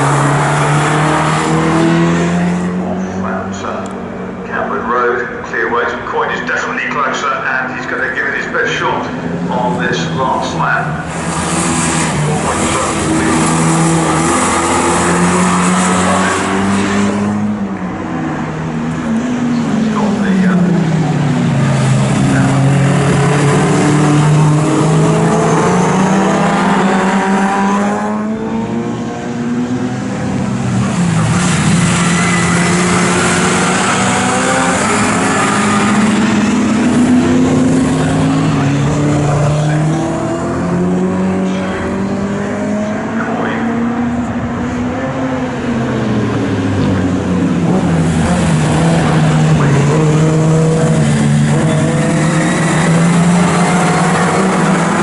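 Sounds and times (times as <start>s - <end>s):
racing car engines accelerating: 0.0s - 55.0s.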